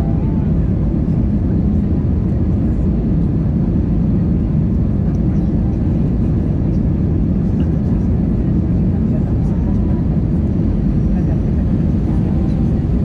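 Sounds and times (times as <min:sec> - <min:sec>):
airplane cabin engine drone: 0:00.0 - 0:13.0.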